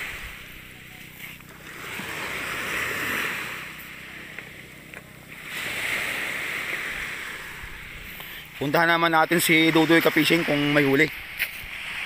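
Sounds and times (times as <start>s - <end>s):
small waves washing onto gravel: 0.0s - 4.5s, 5.3s - 12.0s.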